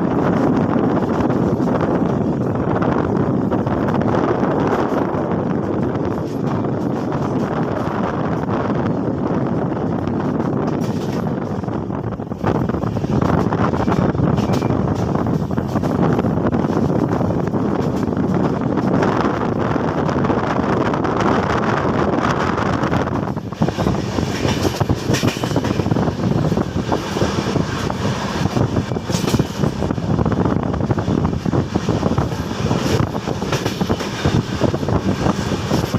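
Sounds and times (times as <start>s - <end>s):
train wheels clattering over rails: 0.0s - 20.3s, 22.4s - 35.9s
train rushing at high speed: 0.0s - 35.9s.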